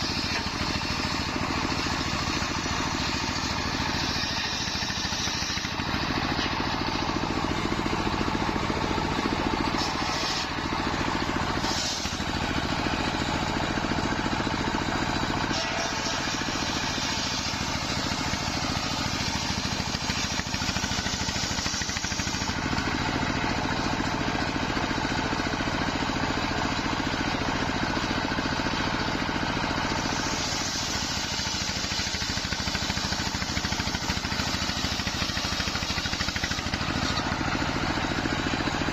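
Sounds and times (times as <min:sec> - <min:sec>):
circular saw cutting timber: 0:00.0 - 0:24.2, 0:28.7 - 0:38.9
engine hum: 0:00.0 - 0:38.9.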